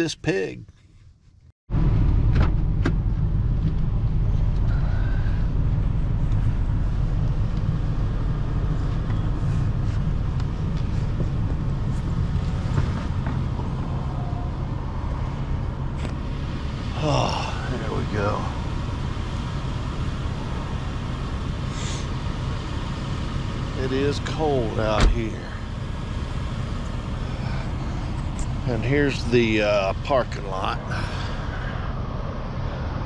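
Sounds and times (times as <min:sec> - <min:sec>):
car engine idling: 0:01.9 - 0:32.7.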